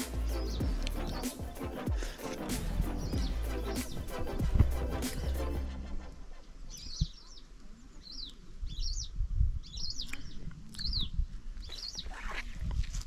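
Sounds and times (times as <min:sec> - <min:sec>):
bird chirping: 0:00.0 - 0:12.4.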